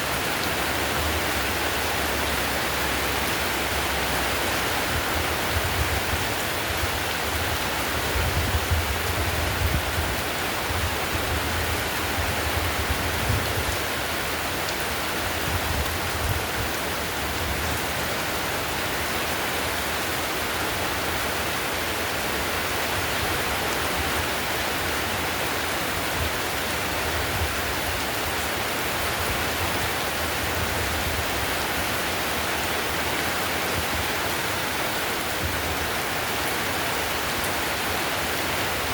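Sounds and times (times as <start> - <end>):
heavy rain on a tiled roof: 0.0 - 38.9.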